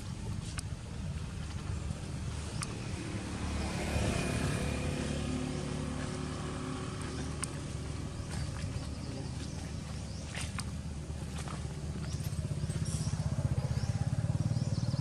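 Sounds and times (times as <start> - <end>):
motor vehicle engine passing: 1.3 - 15.0.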